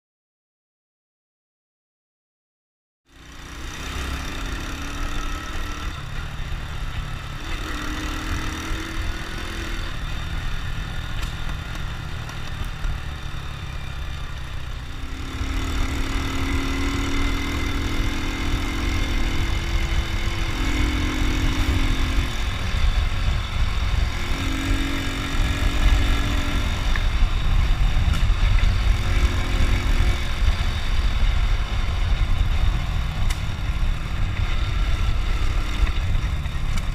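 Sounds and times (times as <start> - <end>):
motorcycle engine running: 3.1 - 36.9.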